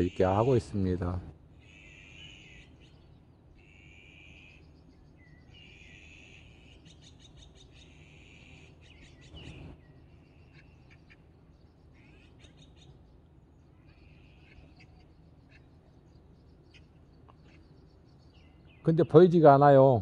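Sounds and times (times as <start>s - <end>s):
bird singing drawn-out notes: 0.0s - 20.0s
birds giving high chips: 1.6s - 19.5s.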